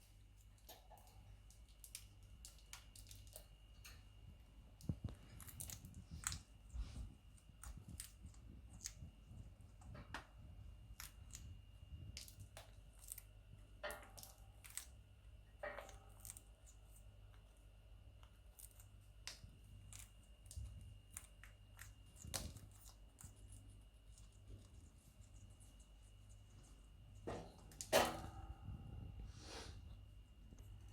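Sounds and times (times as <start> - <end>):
parrot crunching broccoli: 0.0 - 28.2.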